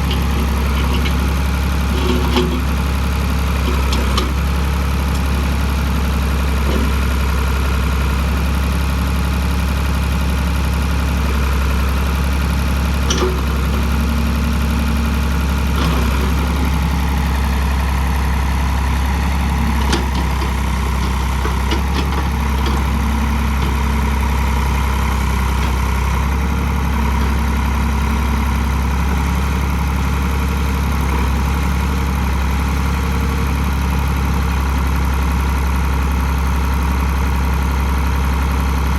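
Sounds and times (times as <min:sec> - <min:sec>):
backhoe engine idling: 0:00.0 - 0:38.9.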